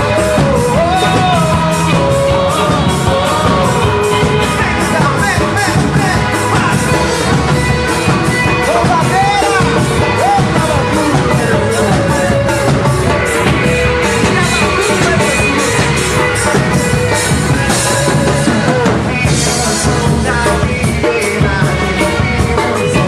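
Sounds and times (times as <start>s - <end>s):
live band playing rock song: 0.0s - 23.0s.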